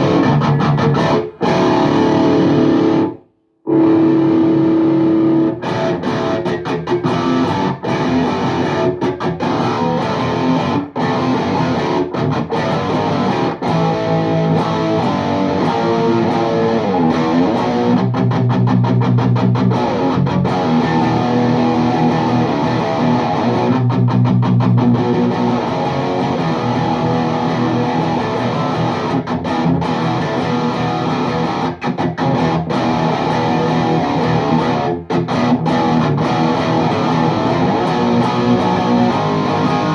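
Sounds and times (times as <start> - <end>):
distorted electric guitar riffs: 0.0 - 39.9.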